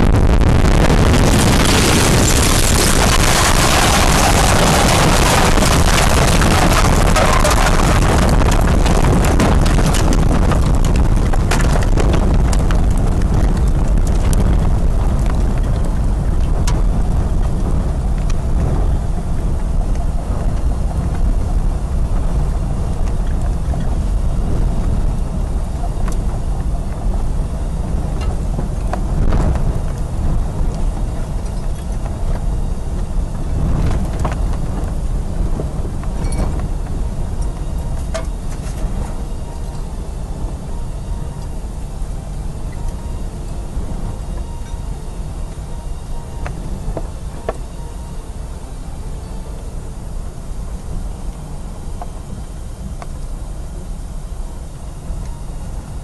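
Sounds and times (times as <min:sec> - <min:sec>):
storm wind buffeting microphone: 0:00.0 - 0:56.0.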